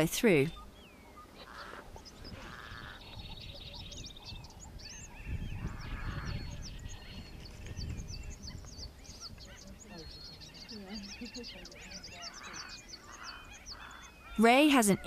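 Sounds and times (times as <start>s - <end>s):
birds chirping and whistling: 0.0s - 15.0s
harsh buzzy bird calls: 0.0s - 15.0s.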